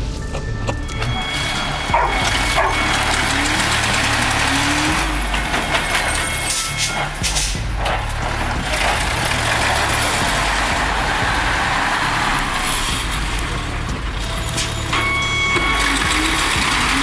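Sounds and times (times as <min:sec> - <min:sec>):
road and wind noise: 0:00.0 - 0:17.0
truck engine hum: 0:00.0 - 0:17.0.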